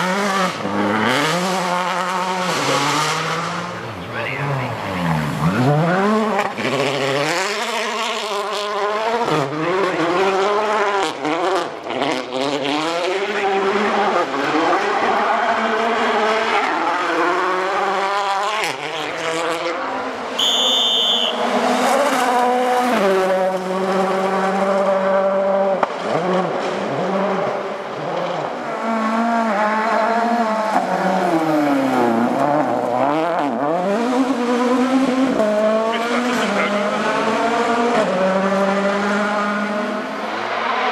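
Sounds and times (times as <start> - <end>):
gravel and tyre noise: 0.0 - 40.9
rally car engines revving: 0.0 - 40.9.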